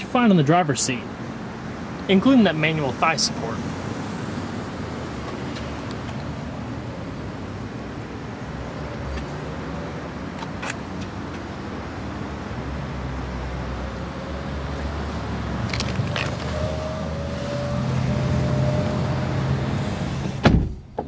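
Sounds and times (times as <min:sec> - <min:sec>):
motor vehicles rumbling: 0:00.0 - 0:21.0.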